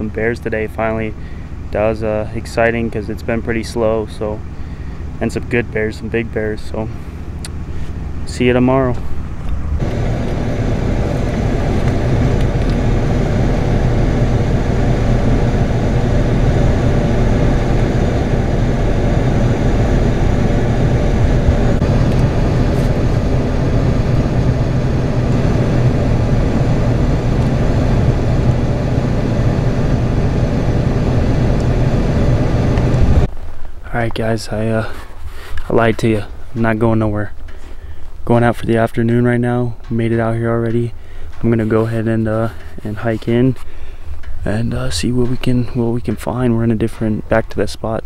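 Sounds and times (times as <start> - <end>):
road noise: 0.0 - 48.0
truck engine droning: 0.0 - 48.0.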